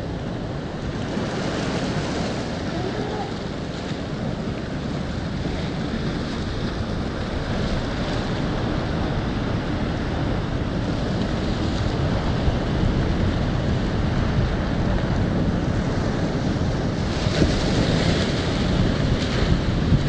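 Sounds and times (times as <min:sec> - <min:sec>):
surf breaking against sea wall: 0:00.7 - 0:20.0.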